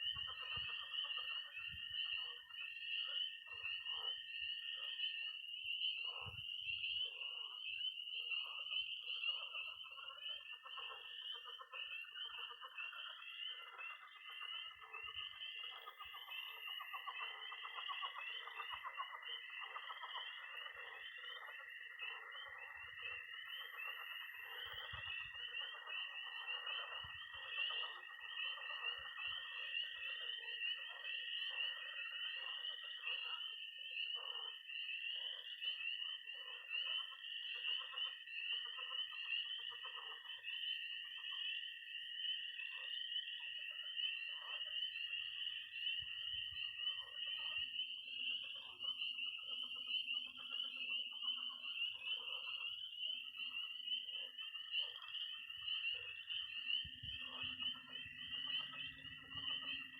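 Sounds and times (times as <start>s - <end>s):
frogs croaking: 0.0s - 59.9s
frogs peeping rapidly: 0.0s - 59.9s
high-pitched toad trill: 0.0s - 59.9s.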